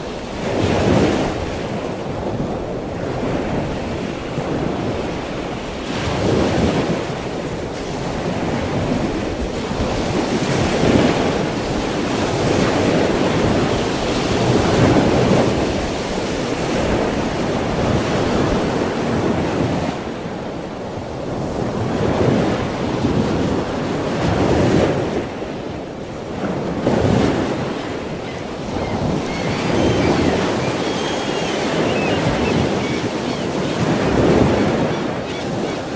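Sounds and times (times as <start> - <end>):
ocean waves washing in: 0.0 - 35.9.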